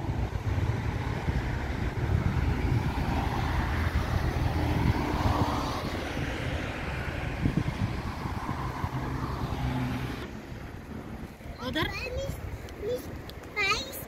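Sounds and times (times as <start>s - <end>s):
vehicle road noise: 0.0s - 14.0s.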